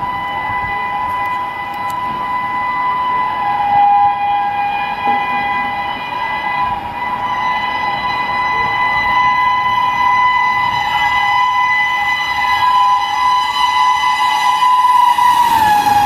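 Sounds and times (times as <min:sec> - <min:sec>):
two-tone train horn blast: 0:00.0 - 0:16.0.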